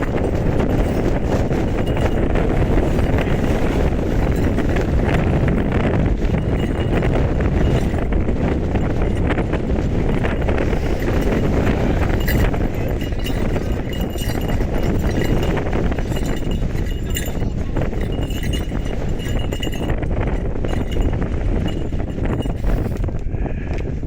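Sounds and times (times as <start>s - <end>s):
light clicks and clinks: 0.0s - 9.4s, 10.2s - 23.2s
wind buffeting microphone: 0.0s - 24.0s.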